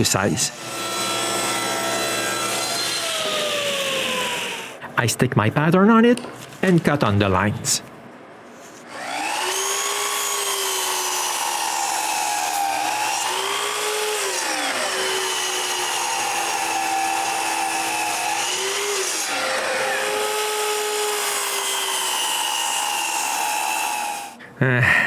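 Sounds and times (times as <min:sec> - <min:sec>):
power saw cutting wood: 0:00.0 - 0:04.8, 0:08.9 - 0:24.4.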